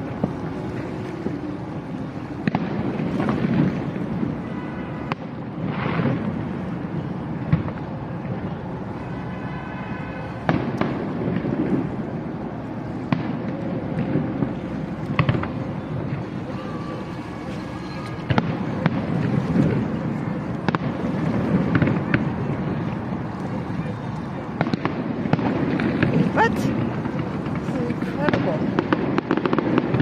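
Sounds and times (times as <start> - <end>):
rumbling and crackling: 0.0 - 9.1, 10.4 - 30.0.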